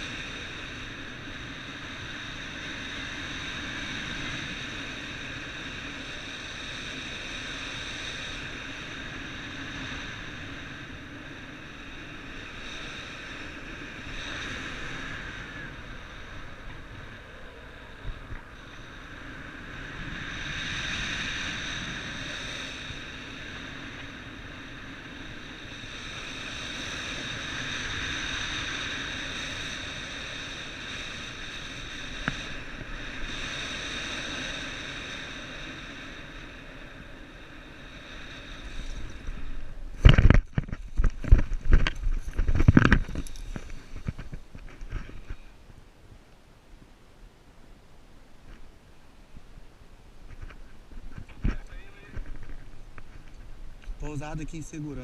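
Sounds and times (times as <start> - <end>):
low wind rumble: 0.0 - 55.0
wind blowing in gusts: 0.0 - 55.0.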